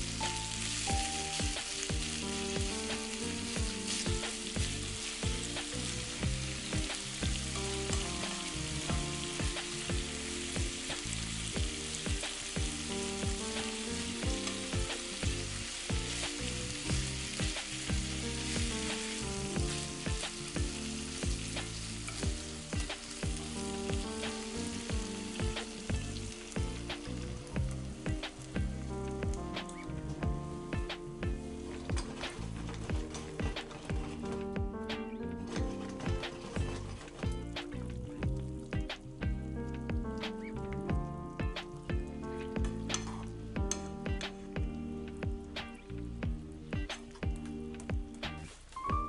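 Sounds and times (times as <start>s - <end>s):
background music with steady beat: 0.0s - 49.0s
food sizzling in a frying pan: 0.0s - 49.0s.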